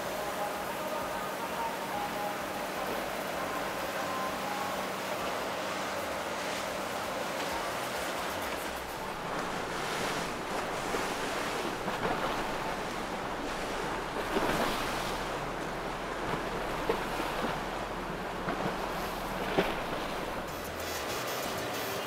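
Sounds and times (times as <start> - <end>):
choppy water: 0.0 - 22.0.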